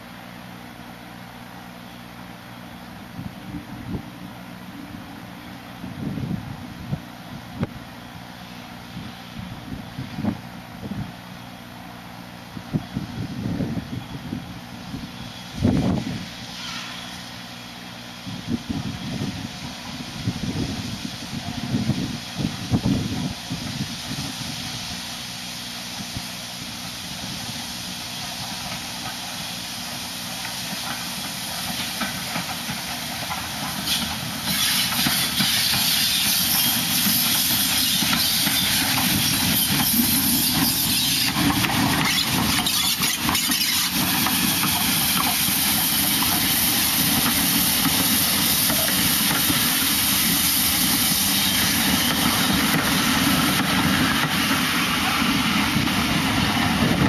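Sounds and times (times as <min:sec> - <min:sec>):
loud hiss of steam: 0:00.0 - 0:57.0
steam locomotive passing: 0:00.0 - 0:57.0.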